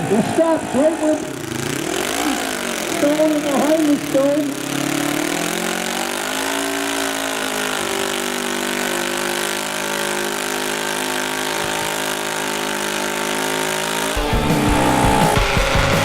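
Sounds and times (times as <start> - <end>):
lawn tractor engine idling: 0.0 - 16.0.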